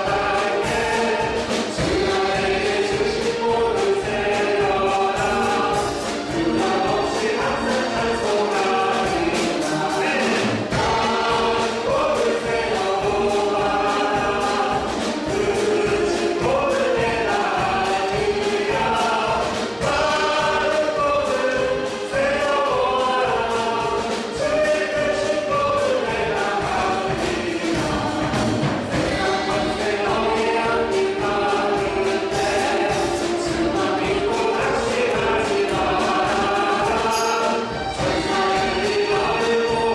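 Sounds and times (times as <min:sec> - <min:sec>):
band accompaniment: 0:00.0 - 0:39.9
group singing worship song: 0:00.0 - 0:39.9.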